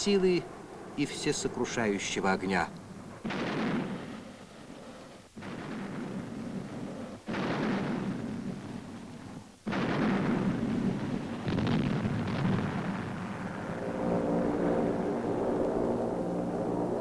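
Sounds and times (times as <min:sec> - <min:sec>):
rockets launching: 0:01.3 - 0:17.0.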